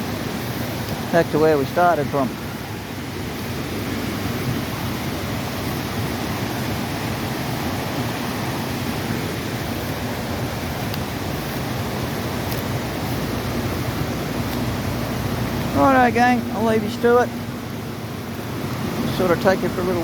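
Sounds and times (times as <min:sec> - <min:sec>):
flooded creek rushing: 0:00.0 - 0:20.0.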